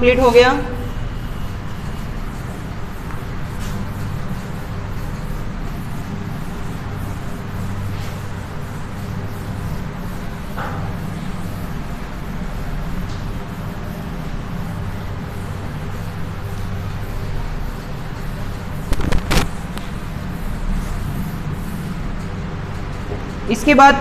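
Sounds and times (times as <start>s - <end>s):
duster wiping blackboard: 0.0s - 22.3s
steady mechanical hum: 0.0s - 24.0s.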